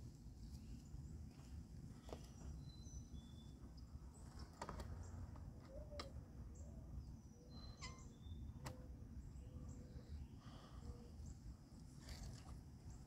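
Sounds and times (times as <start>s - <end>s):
songbird chirps: 0.4s - 13.0s.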